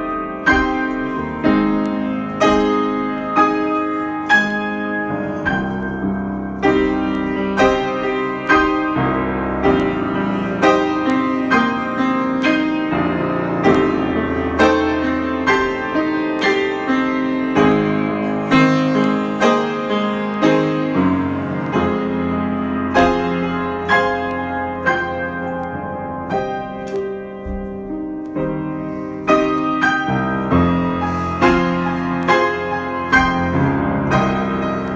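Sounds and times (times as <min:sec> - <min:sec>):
piano chords ringing: 0:00.0 - 0:34.9.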